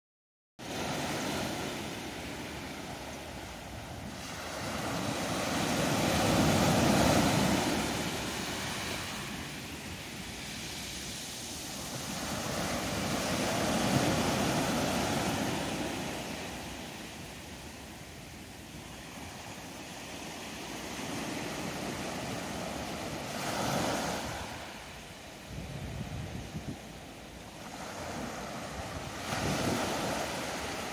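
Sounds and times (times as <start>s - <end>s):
small waves breaking on beach: 0.6s - 30.9s.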